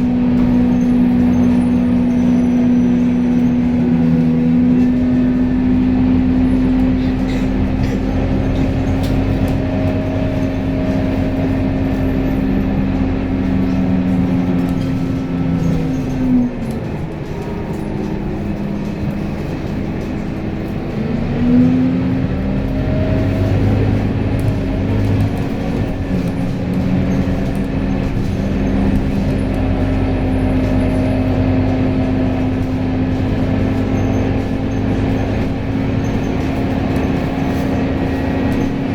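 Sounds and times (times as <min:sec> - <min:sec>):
vehicle motor hum: 0:00.0 - 0:38.9.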